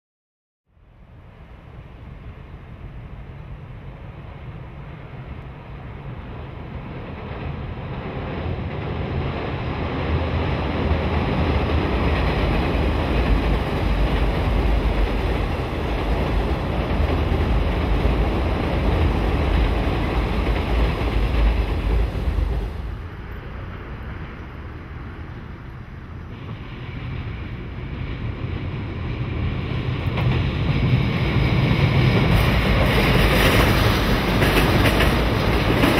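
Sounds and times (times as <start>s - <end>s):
train running on bridge: 0.8s - 35.9s.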